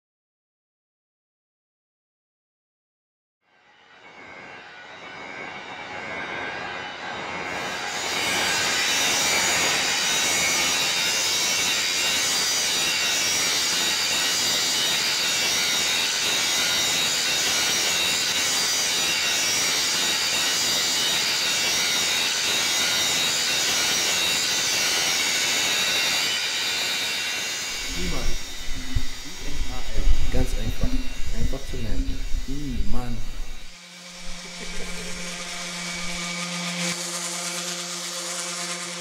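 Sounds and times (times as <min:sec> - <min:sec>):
angle grinder grinding metal: 0:05.2 - 0:39.0.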